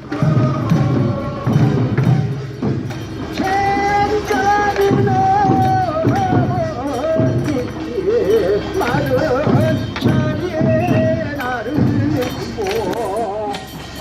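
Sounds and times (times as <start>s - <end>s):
percussive strikes: 0.0s - 14.0s
person singing a long line: 0.0s - 14.0s.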